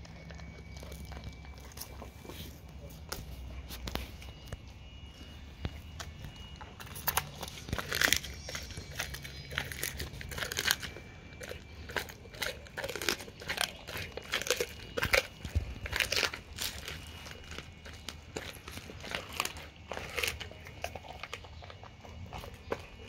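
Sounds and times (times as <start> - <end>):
dog crunching fish bones: 0.0 - 23.0.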